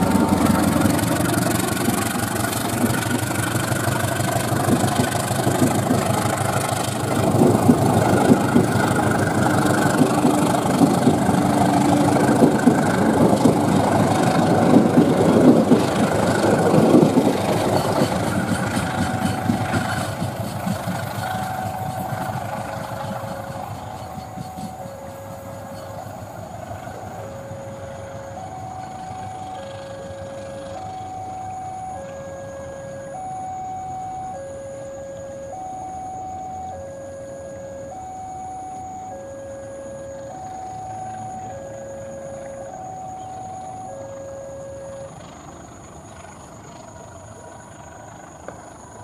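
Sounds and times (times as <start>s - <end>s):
two-tone level-crossing alarm: 0.0s - 48.0s
diesel locomotive engine: 0.0s - 49.0s
wheels rumbling on rail: 0.0s - 49.0s.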